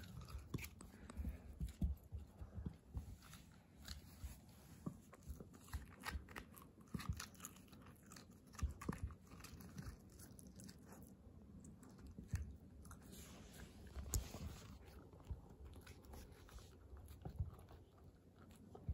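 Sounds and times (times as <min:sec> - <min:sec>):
puppy crunching a chew: 0:00.0 - 0:18.9.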